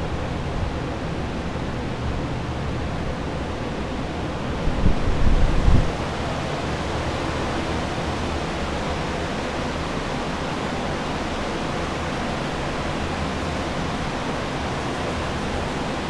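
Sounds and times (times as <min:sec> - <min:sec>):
drying fans running: 0:00.0 - 0:16.0.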